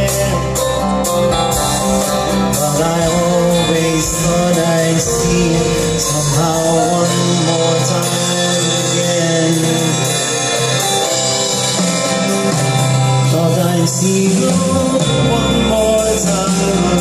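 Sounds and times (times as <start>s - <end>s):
man singing: 0.0s - 11.2s, 13.0s - 17.0s
acoustic guitar: 0.0s - 17.0s
bass: 0.0s - 17.0s.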